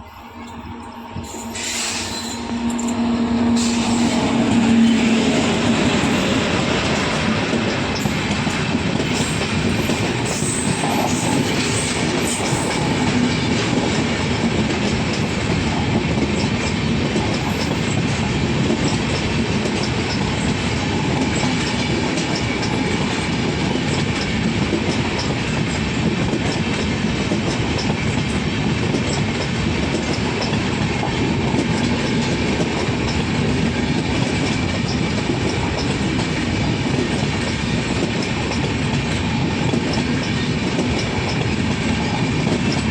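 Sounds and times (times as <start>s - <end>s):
express train passing fast: 0.0s - 42.9s.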